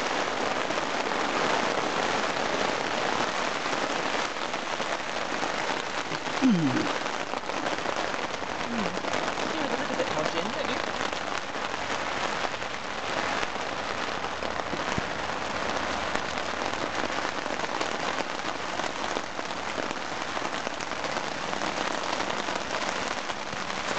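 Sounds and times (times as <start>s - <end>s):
rain on a tent: 0.0s - 23.9s.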